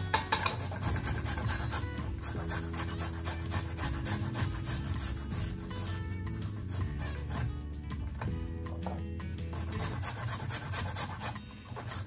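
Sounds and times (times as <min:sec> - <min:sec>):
garlic scraping on a grater: 0:00.0 - 0:07.6, 0:09.6 - 0:12.0.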